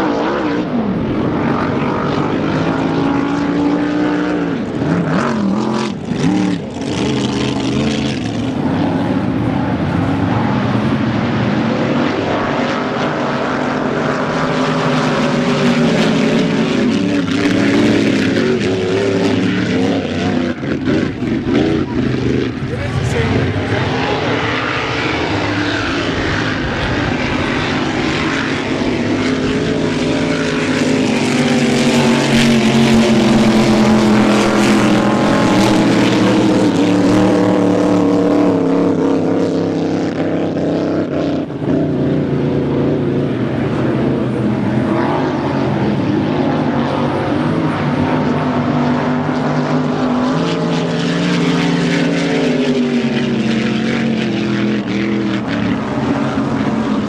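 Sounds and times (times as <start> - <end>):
boat engine running loud: 0.0 - 57.0.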